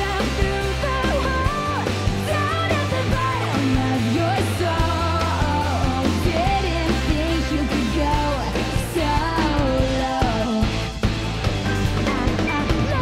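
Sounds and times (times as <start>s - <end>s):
woman singing lead vocal: 0.0s - 11.0s, 12.3s - 13.0s
live pop rock band playing: 0.0s - 13.0s.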